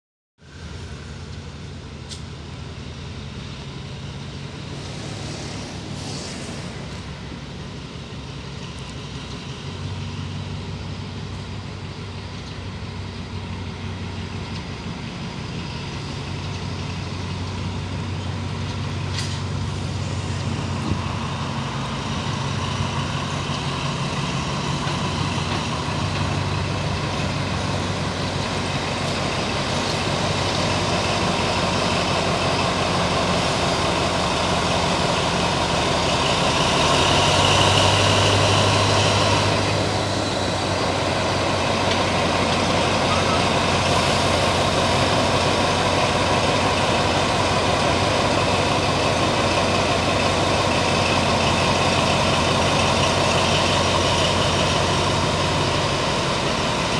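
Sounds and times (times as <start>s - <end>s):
locomotive engine hum: 0.4s - 56.9s.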